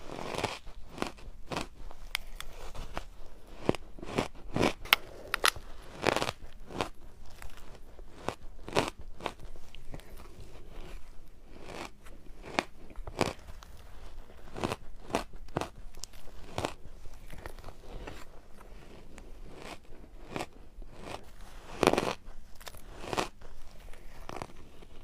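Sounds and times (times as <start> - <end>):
shaved ice being chewed: 0.0 - 25.0.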